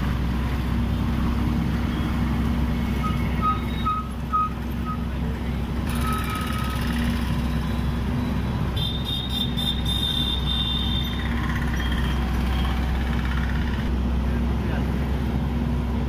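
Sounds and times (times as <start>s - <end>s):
engine running with deep hum: 0.0s - 16.0s.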